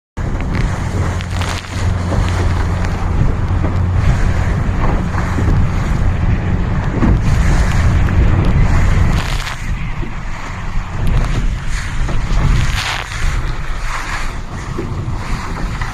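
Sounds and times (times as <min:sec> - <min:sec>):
water splashing against hull: 0:00.2 - 0:15.9
wind buffeting microphone: 0:00.2 - 0:15.9.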